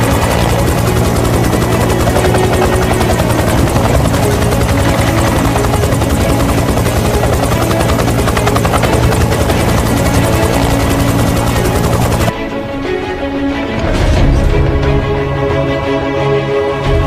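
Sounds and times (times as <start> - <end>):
aircraft engine drone: 0.0 - 13.9
background music: 0.0 - 17.0.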